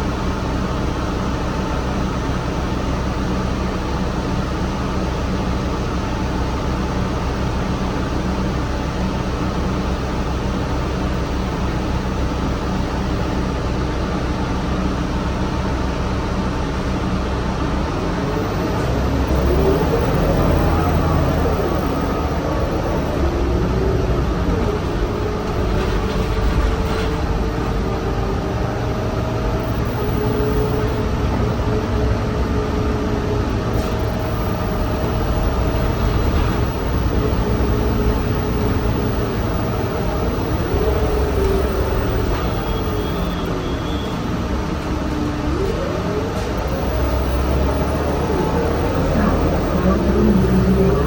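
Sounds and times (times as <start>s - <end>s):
bus engine rumble and whine: 0.0s - 51.0s.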